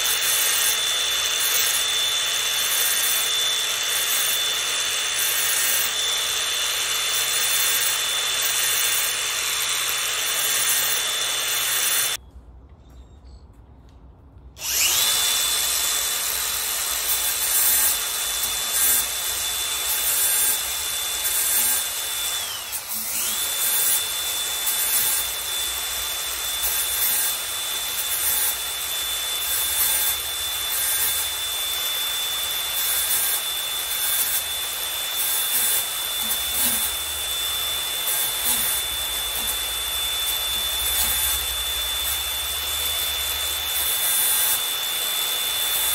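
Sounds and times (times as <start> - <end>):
angle grinder grinding metal: 0.0 - 12.2, 14.6 - 45.9.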